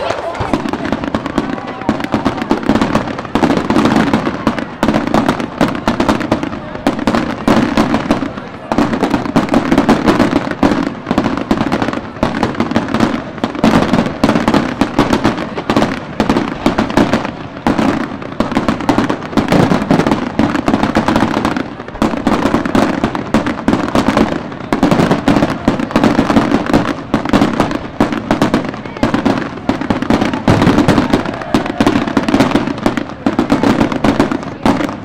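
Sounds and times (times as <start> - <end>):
fireworks cracks and bangs: 0.0 - 35.0.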